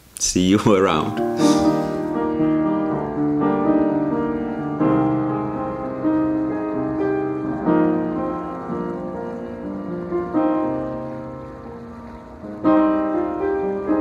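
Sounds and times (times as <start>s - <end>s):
slow piano chords: 0.6s - 14.0s.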